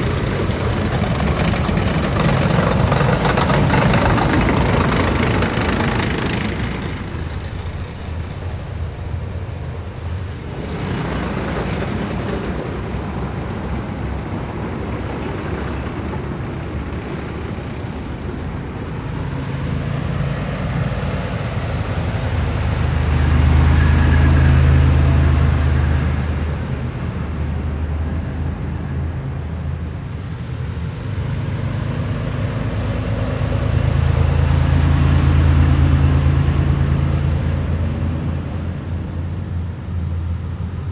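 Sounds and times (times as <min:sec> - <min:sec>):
heavy vehicles driving past: 0:00.0 - 0:40.9.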